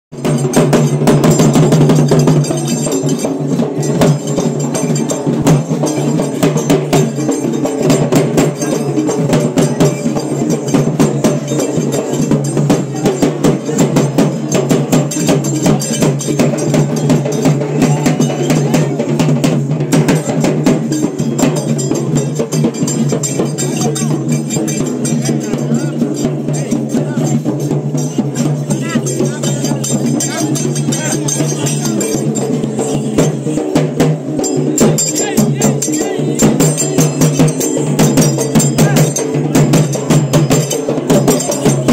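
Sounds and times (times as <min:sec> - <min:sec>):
drums beaten with sticks: 0:00.1 - 0:41.9.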